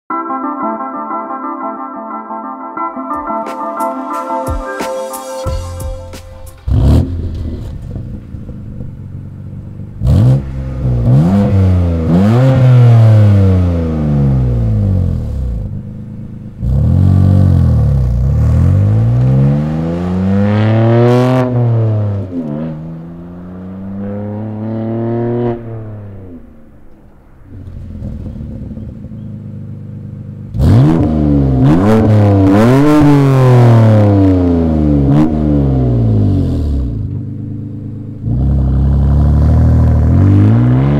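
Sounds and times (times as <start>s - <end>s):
car engine idling and revving: 5.5s - 40.9s.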